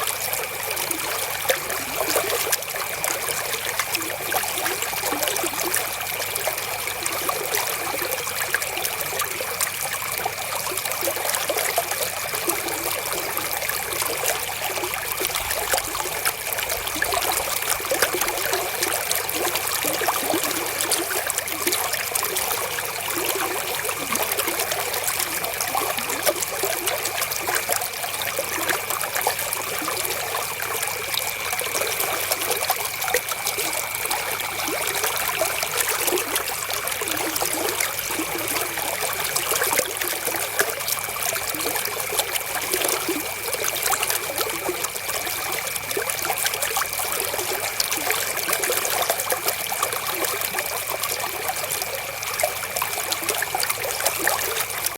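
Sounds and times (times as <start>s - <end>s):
river water flowing over stones: 0.0s - 54.9s.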